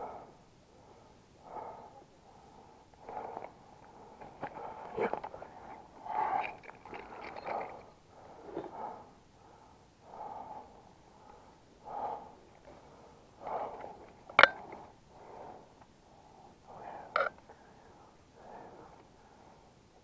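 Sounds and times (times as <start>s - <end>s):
person breathing heavily: 0.0s - 20.0s.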